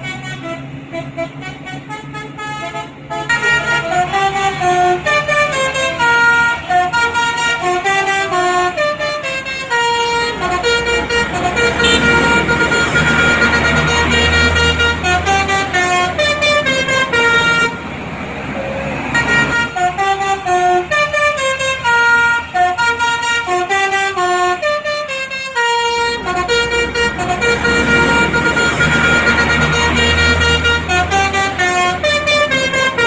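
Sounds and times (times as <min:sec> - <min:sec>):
musical air horn tune: 0:00.0 - 0:17.8, 0:19.0 - 0:33.0
bus engine rumble: 0:00.0 - 0:33.0.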